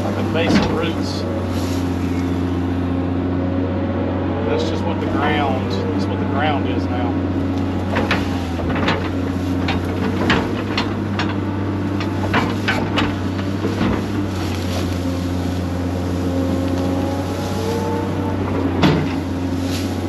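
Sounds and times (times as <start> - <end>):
bucket tearing through roots: 0.0 - 2.7, 4.6 - 20.0
diesel engine running: 0.0 - 20.0.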